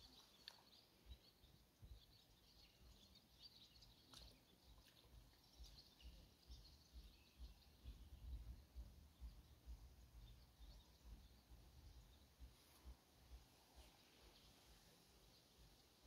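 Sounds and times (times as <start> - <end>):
distant birds chirping: 0.0 - 16.0
soft low rumble: 1.0 - 16.0.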